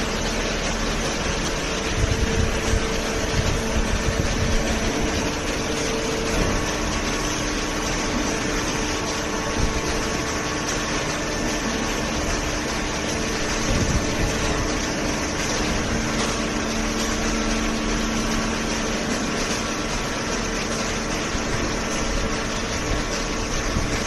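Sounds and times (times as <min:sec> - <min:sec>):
hydraulic power unit humming: 0:00.0 - 0:24.0.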